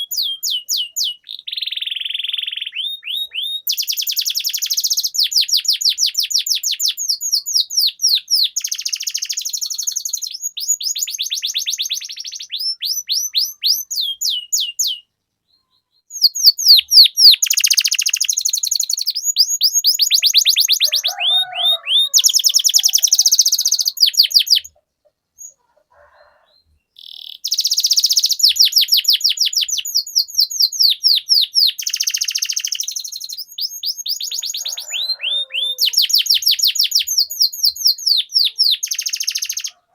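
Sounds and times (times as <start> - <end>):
canary singing trills: 0.0 - 24.8, 25.4 - 39.9.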